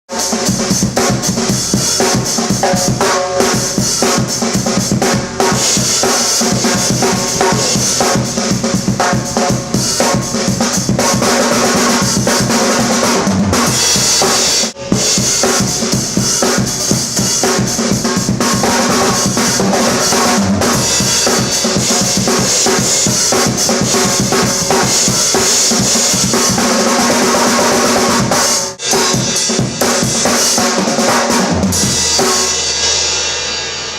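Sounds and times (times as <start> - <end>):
fast drum kit playing: 0.1 - 33.9.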